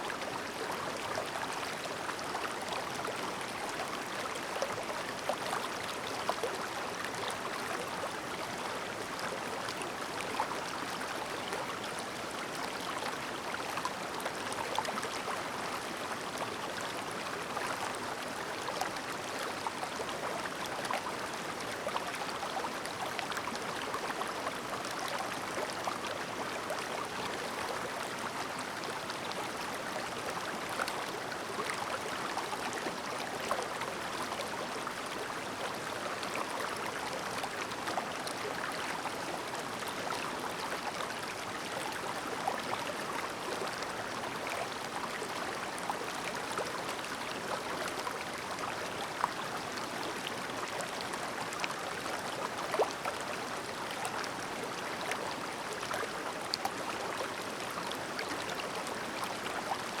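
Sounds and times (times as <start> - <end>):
stream babbling: 0.1 - 60.0.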